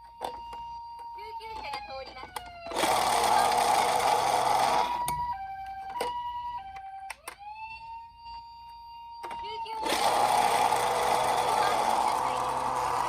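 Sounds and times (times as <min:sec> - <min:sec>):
toy two-tone siren: 0:00.0 - 0:13.0.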